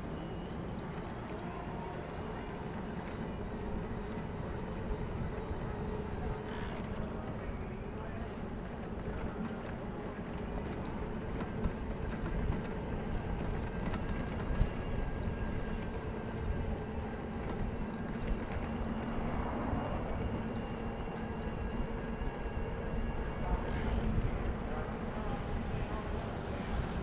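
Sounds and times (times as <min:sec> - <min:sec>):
bicycle tyres rolling hum: 0:00.0 - 0:27.0.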